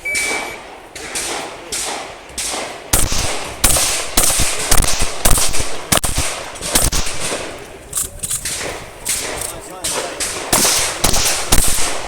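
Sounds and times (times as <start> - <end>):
shotgun shots: 0.0 - 7.6, 8.3 - 12.0.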